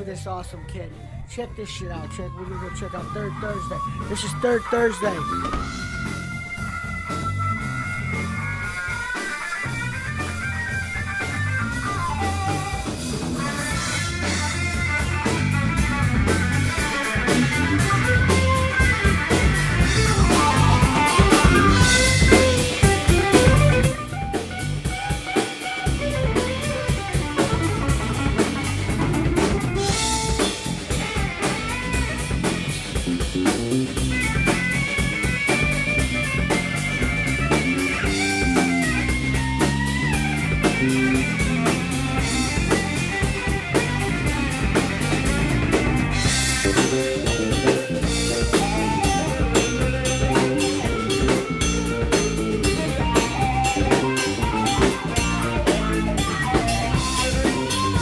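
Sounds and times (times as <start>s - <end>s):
bass guitar: 0.0s - 58.0s
electric guitar: 1.0s - 58.0s
drum kit: 2.0s - 58.0s.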